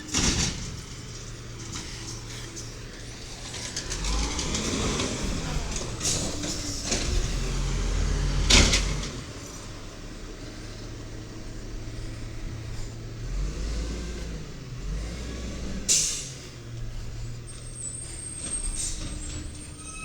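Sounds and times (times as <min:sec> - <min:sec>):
garbage truck engine running: 0:00.0 - 0:20.0.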